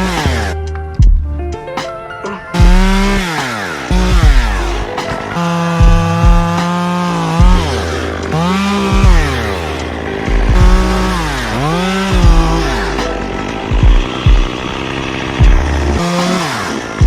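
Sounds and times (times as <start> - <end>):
chainsaw running at high revs: 0.0 - 1.1, 2.5 - 17.0
low thumps: 0.0 - 1.6, 2.6 - 14.7, 15.3 - 16.2.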